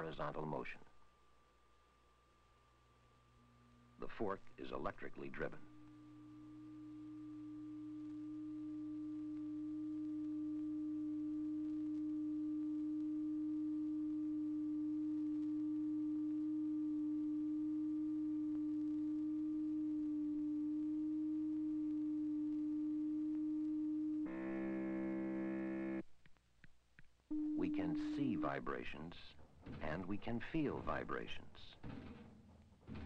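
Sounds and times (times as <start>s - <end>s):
tuning fork steady tone: 0.0s - 26.0s, 27.3s - 29.3s.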